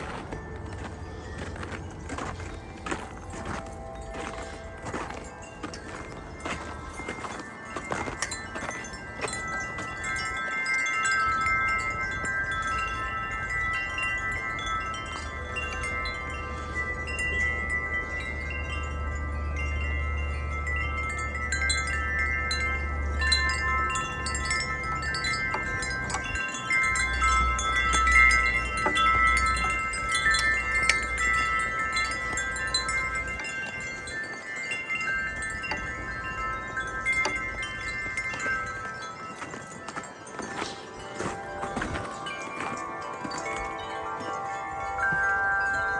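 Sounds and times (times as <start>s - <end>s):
wind chimes ringing: 0.0s - 45.9s.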